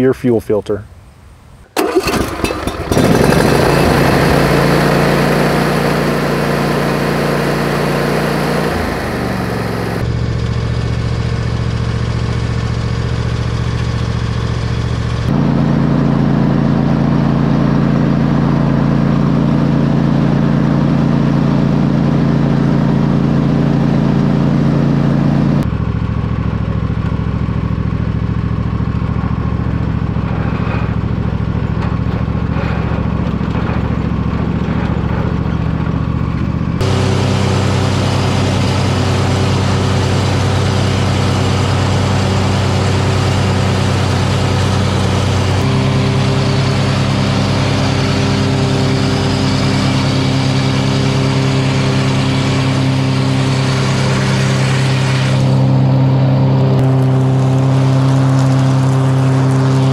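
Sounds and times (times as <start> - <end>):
lawn mower engine running: 1.6 - 59.9
mower cutting grass: 1.8 - 59.9.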